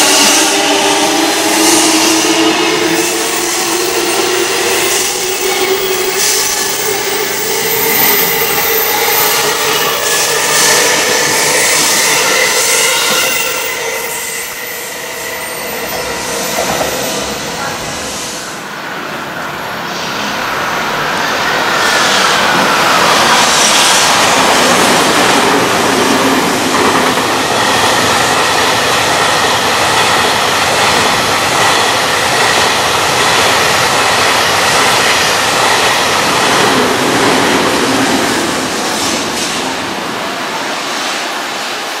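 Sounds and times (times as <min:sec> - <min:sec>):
freight train rumbling and rattling: 0:00.0 - 0:42.0.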